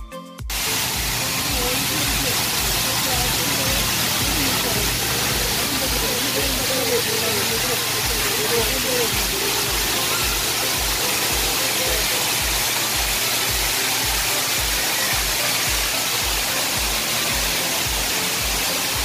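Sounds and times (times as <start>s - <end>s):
background music with bass beat: 0.0s - 19.0s
waterfall rushing: 0.5s - 19.0s.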